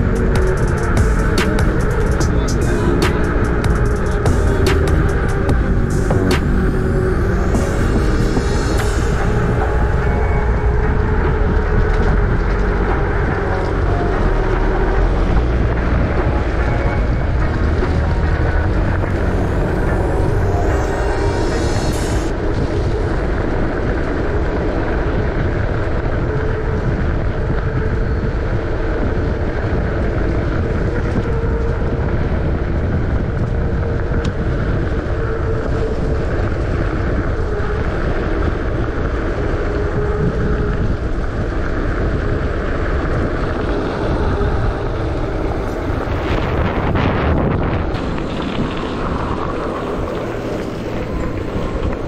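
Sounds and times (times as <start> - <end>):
wheels rolling: 0.0 - 52.0
wind rush over microphone: 0.0 - 52.0.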